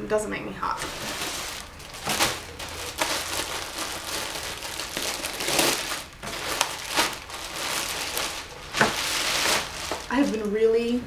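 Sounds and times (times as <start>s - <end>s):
plastic bag crinkling: 0.6s - 11.0s.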